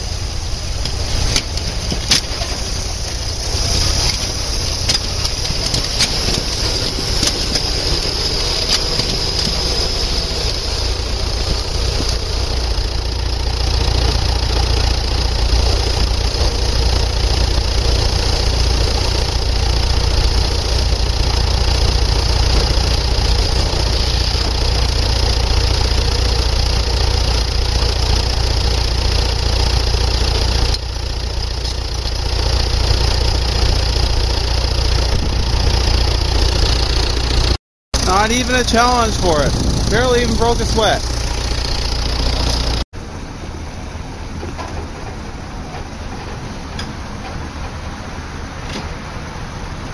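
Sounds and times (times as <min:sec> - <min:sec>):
car engine under load: 0:00.0 - 0:49.9.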